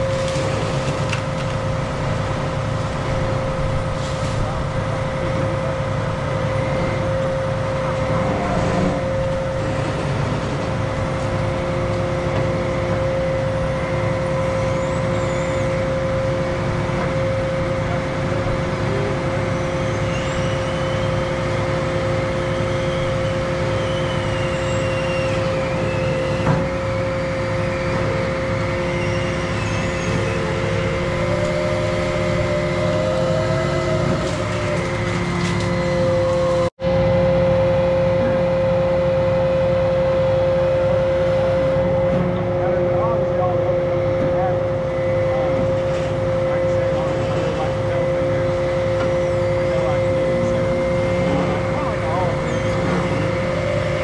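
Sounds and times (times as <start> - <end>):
hydraulic whine: 0.0 - 54.0
lower hydraulic whine: 0.0 - 54.0
truck engine running: 0.0 - 54.0.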